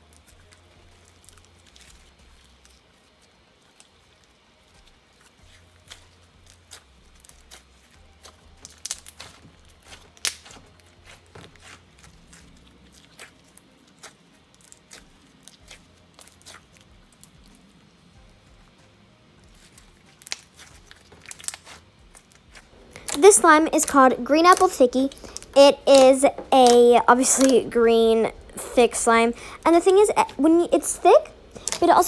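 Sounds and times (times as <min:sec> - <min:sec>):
slime squished by hand: 0:04.8 - 0:18.7, 0:19.4 - 0:32.0.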